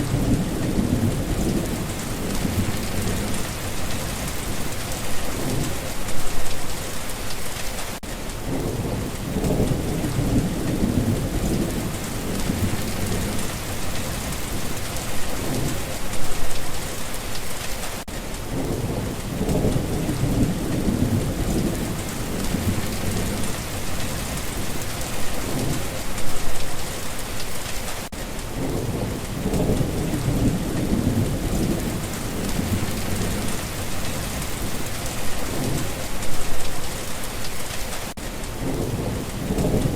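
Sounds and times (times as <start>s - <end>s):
distant thunder rumbling: 0.0s - 7.6s, 8.3s - 17.6s, 18.4s - 27.3s, 28.5s - 37.6s, 38.6s - 39.9s
heavy rain falling: 0.0s - 39.9s.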